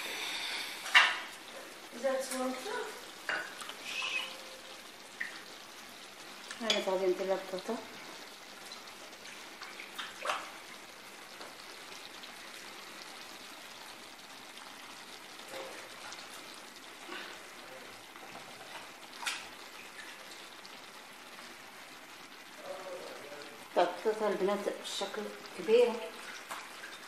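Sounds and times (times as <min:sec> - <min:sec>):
food sizzling in a pot: 0:00.0 - 0:27.0.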